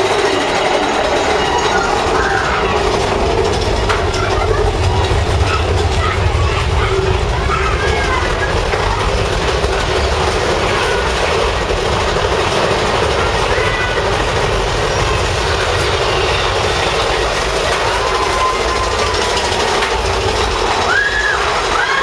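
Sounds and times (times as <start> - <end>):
roller coaster rattling rumble: 0.0 - 22.0.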